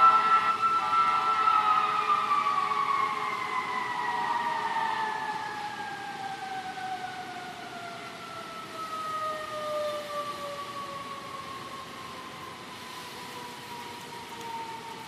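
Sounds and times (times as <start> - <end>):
emergency vehicle siren: 0.0 - 15.0
wind through tree leaves: 0.0 - 15.0.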